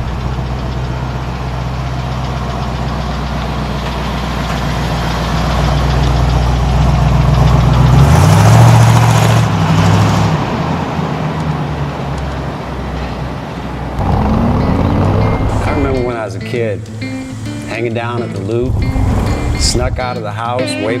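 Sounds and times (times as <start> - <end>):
engine running: 0.0 - 20.4.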